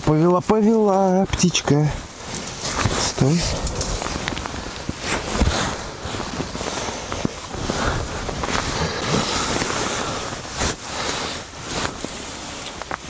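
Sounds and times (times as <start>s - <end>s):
wind rustling tent fabric: 0.0s - 13.0s.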